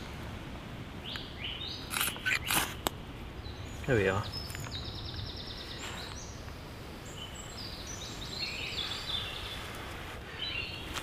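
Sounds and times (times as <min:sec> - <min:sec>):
low rumble of breeze: 0:00.0 - 0:11.0
songbirds singing: 0:00.0 - 0:11.0.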